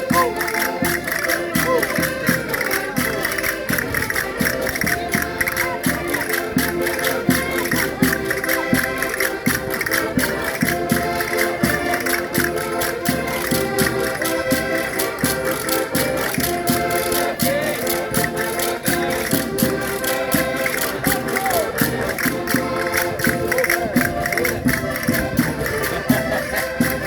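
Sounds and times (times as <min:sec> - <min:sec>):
concertinas playing folk tune: 0:00.0 - 0:27.0
rattling percussion: 0:00.0 - 0:27.0.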